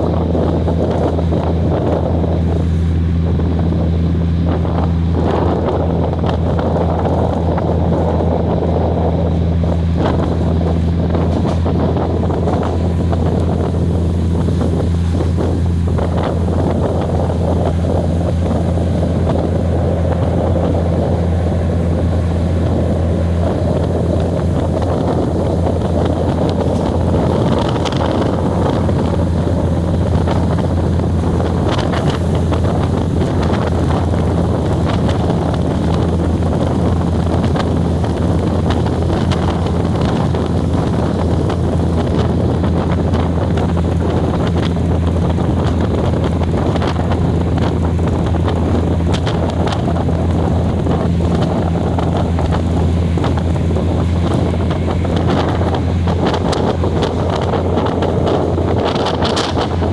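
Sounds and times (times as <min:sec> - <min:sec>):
moving train rumble: 0:00.0 - 0:59.9
wind buffeting microphone: 0:00.0 - 0:59.9.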